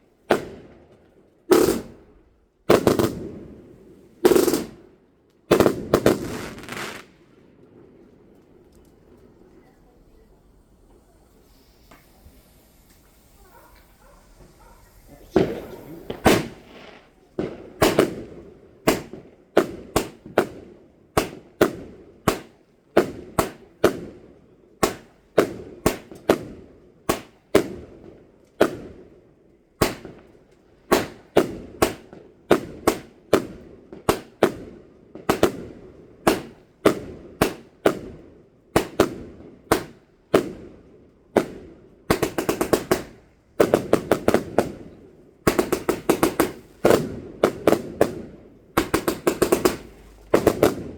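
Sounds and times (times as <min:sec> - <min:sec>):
fireworks crackling: 0:00.0 - 0:24.2, 0:24.8 - 0:50.9
fireworks banging: 0:00.2 - 0:24.2, 0:24.8 - 0:29.1, 0:29.8 - 0:50.9.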